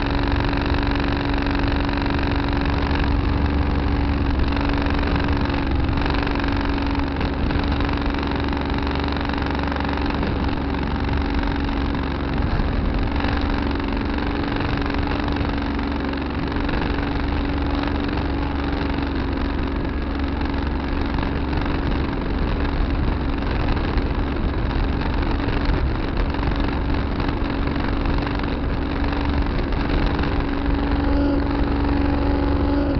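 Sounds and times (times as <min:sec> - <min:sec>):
tractor engine droning: 0:00.0 - 0:32.9.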